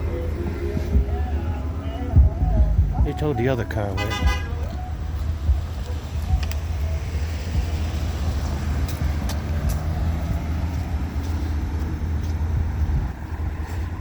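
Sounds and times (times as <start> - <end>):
street traffic: 0.0 - 14.0
vehicle engine rumble: 0.0 - 14.0.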